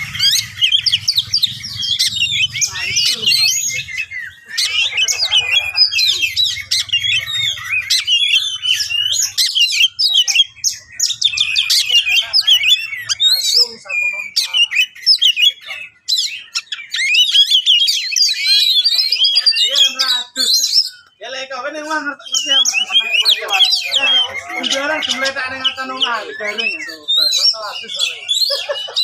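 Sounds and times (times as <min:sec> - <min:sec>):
magpie-robin singing: 0:00.0 - 0:29.0.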